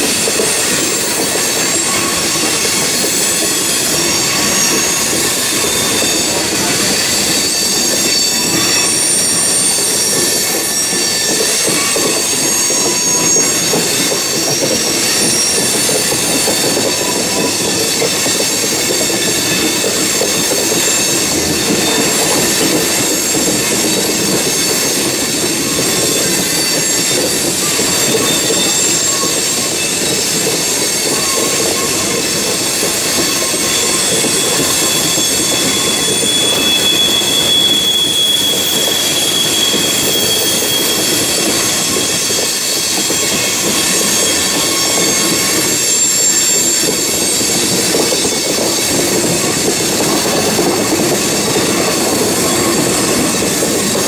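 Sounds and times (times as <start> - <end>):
high-pitched wheel squeal: 0.0 - 54.0
steel wheels rumbling on rail: 0.0 - 54.0.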